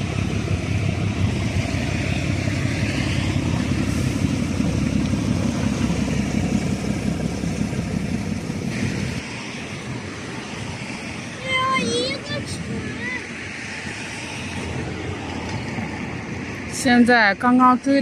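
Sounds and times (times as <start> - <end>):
diesel engine rumble of ships: 0.0 - 18.0.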